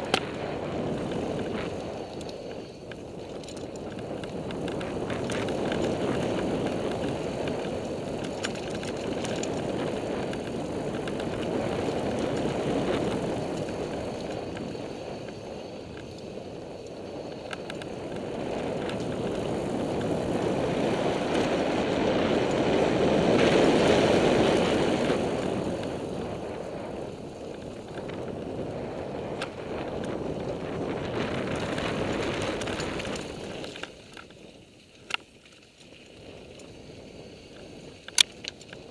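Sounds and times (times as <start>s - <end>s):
bicycle tyres on dirt: 0.0s - 38.9s
bike rattles and clicks: 0.0s - 38.9s.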